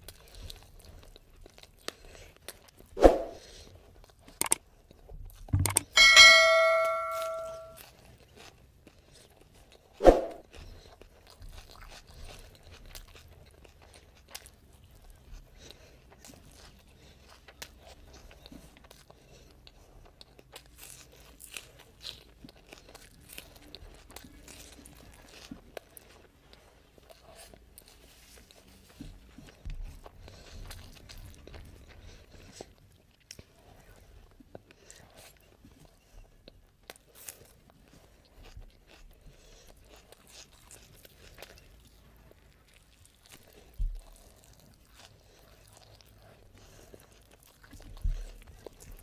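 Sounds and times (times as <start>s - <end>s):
person chewing: 0.0s - 6.0s, 7.7s - 49.0s.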